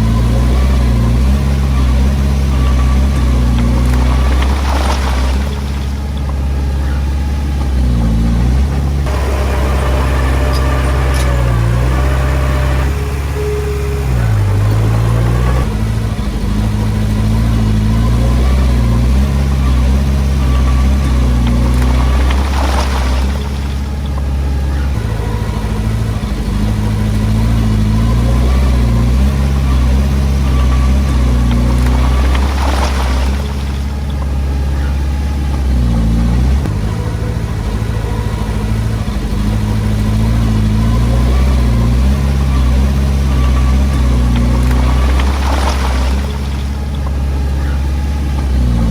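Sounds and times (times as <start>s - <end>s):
bulldozer diesel engine: 0.0s - 48.9s.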